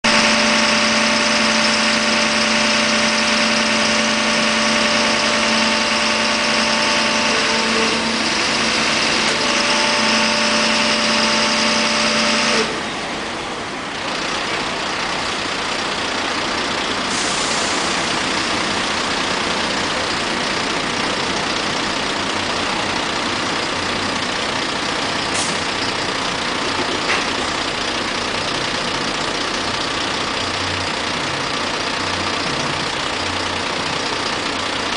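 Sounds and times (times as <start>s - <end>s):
loud mechanical noise: 0.0s - 34.9s.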